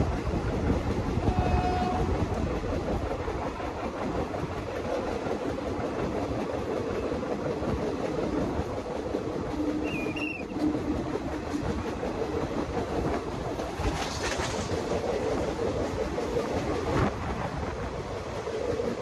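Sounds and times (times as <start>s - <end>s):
train rolling on track: 0.0s - 19.0s
wheels clicking over rail joints: 0.0s - 19.0s.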